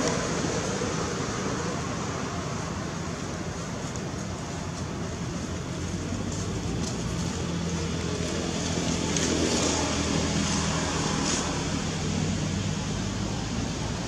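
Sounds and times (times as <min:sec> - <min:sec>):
vehicle passing on road: 0:00.0 - 0:14.0.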